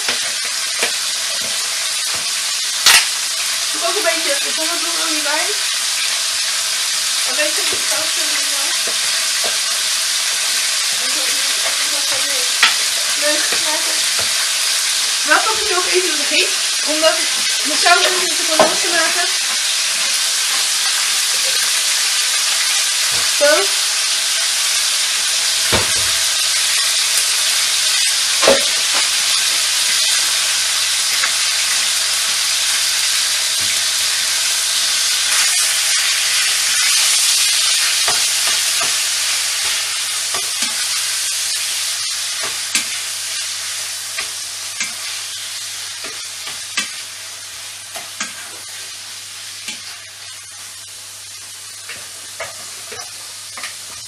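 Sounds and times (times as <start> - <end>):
chicken sizzling in a frying pan: 0.0 - 54.0.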